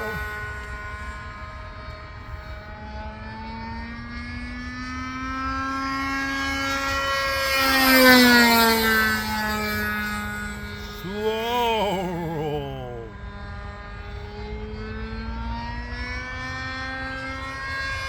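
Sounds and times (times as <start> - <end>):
model plane engine buzzing: 0.0 - 11.0, 13.2 - 18.0.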